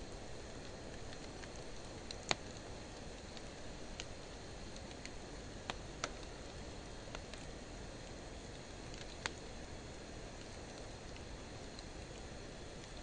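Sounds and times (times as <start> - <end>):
fire crackling pops: 0.0 - 13.0.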